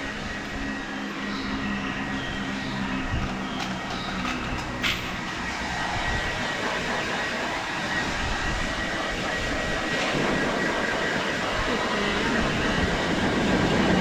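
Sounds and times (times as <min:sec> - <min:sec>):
blow dryer running: 0:00.0 - 0:14.0.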